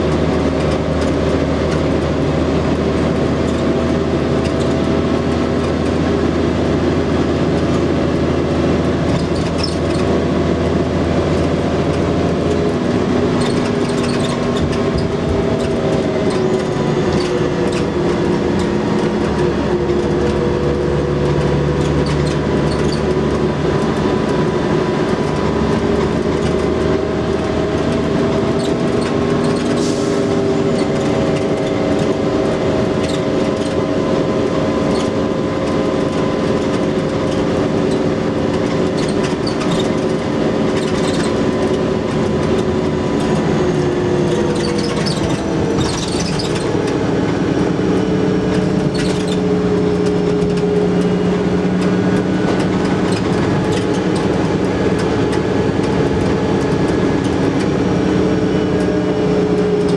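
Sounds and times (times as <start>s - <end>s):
bus diesel engine drone: 0.0s - 59.9s
road noise: 0.0s - 59.9s
bodywork rattles: 0.2s - 59.9s.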